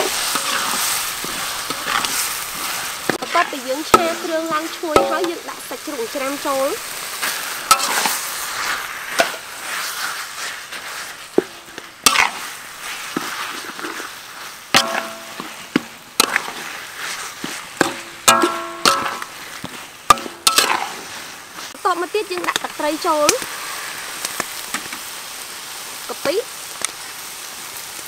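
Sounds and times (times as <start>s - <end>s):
metal ladle scraping a pan: 0.0s - 25.0s
food sizzling in a wok: 0.0s - 28.0s.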